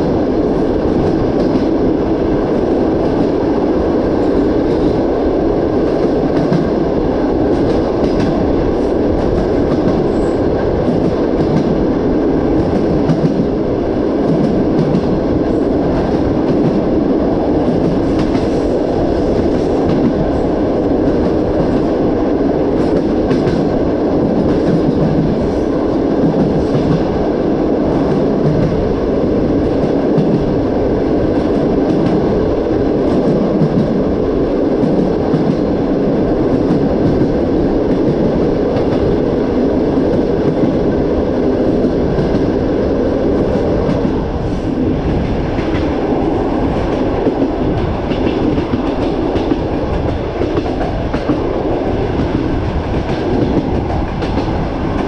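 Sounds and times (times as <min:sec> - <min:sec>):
freight train passing: 0:00.0 - 0:55.0
train rumble and wheel clatter: 0:00.0 - 0:55.0
wind noise: 0:00.0 - 0:55.0.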